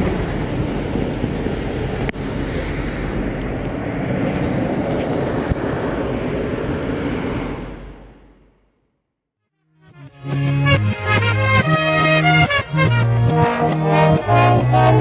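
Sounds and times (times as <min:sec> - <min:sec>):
diesel train running: 0:00.0 - 0:08.8, 0:10.2 - 0:15.0.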